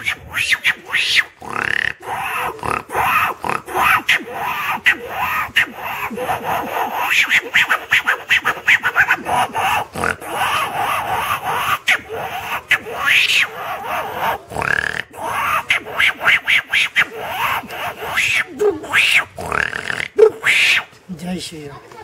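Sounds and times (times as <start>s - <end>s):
man imitating monkey calls: 0.0s - 21.0s.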